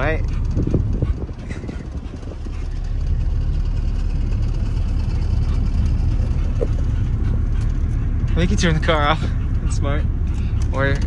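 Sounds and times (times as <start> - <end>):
car engine with rapid knocking: 0.0 - 11.0.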